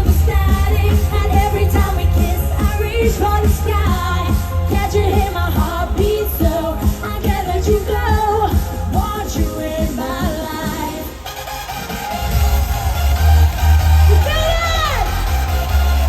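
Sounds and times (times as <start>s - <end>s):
eurodance pop music: 0.0s - 16.0s
heavy bass beat: 0.0s - 16.0s.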